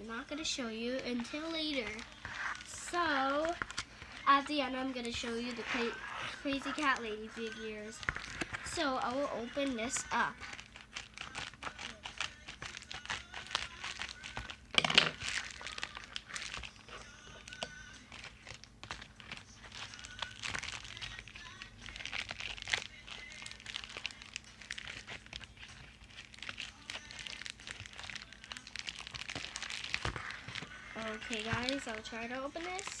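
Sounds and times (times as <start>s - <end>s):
packaging crinkling and rustling: 0.1s - 33.0s
packaging ripping: 0.8s - 33.0s.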